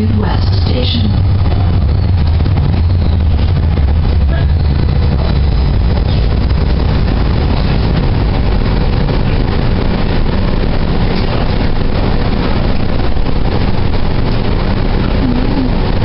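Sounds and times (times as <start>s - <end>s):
light-rail car rumbling: 0.0s - 16.0s.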